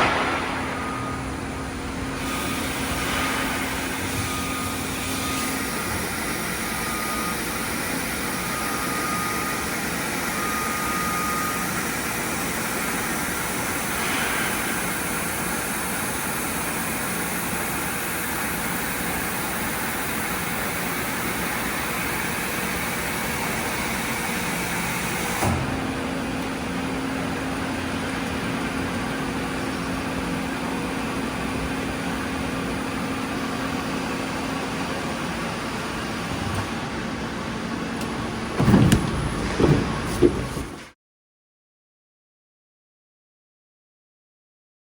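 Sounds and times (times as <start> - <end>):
milling machine humming: 0.1 - 40.9.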